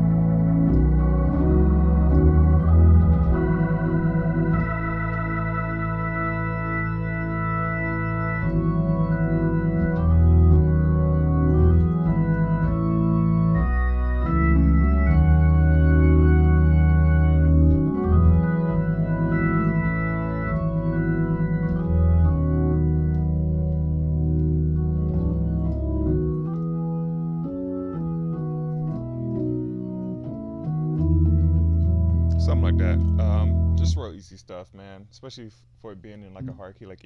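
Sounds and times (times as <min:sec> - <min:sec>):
deep bass line: 0:00.0 - 0:34.2
organ playing gospel chords: 0:00.0 - 0:34.6.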